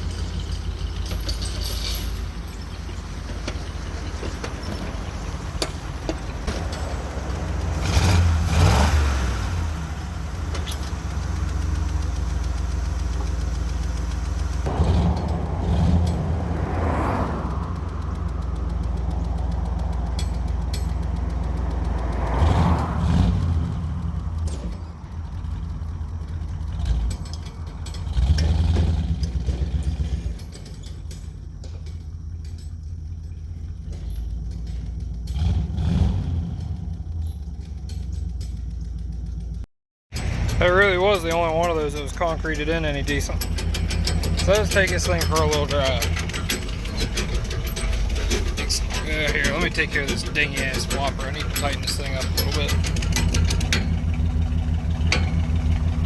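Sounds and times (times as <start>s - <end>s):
pickup engine revving: 1.9s - 30.4s, 33.8s - 38.2s, 40.2s - 56.0s.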